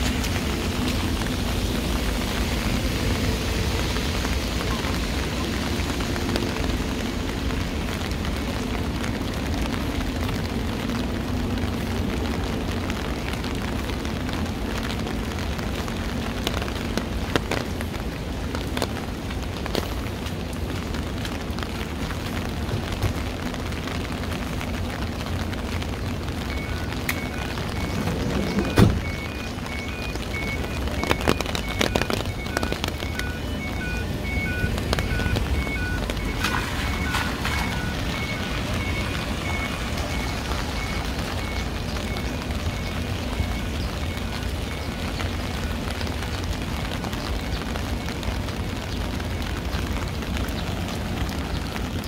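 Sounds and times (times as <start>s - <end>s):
heavy rain falling: 0.0s - 52.0s
low rumble of city traffic: 0.0s - 52.0s.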